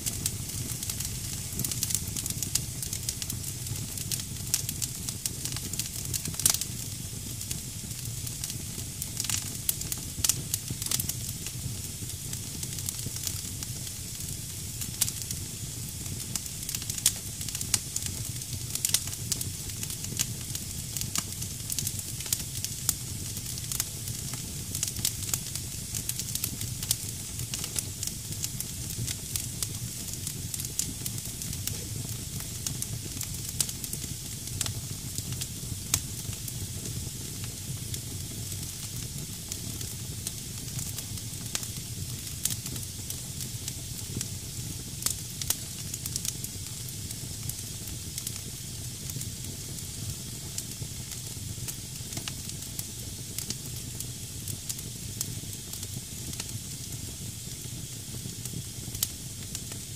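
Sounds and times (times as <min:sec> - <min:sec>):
fire crackling and popping: 0:00.0 - 0:59.9
low fire rumble: 0:00.0 - 0:59.9.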